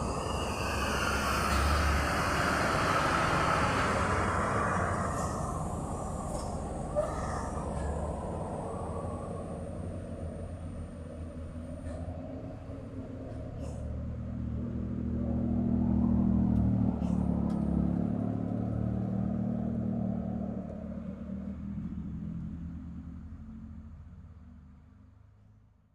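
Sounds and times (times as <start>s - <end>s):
heavy vehicle engine passing: 0.0s - 24.3s.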